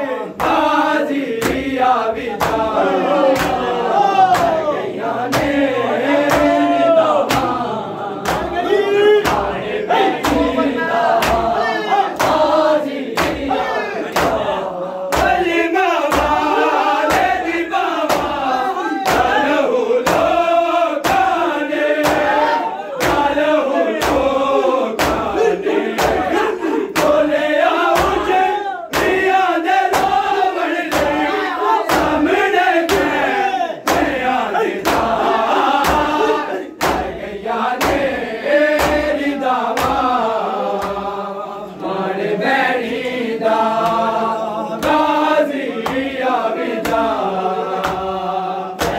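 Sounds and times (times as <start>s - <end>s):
men chanting a lament: 0.0s - 48.9s
palms slapping chests: 0.4s - 41.2s, 44.8s - 48.9s.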